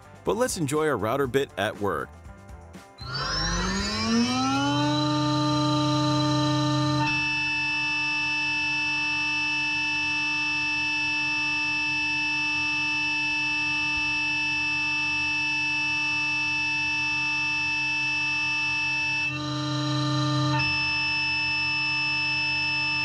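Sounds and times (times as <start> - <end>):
router spindle whine: 3.0 - 23.0.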